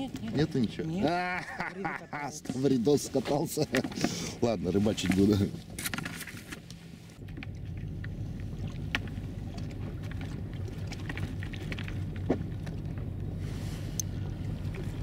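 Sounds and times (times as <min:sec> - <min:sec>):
boat motor humming: 0:00.0 - 0:15.0
water noise: 0:00.0 - 0:15.0.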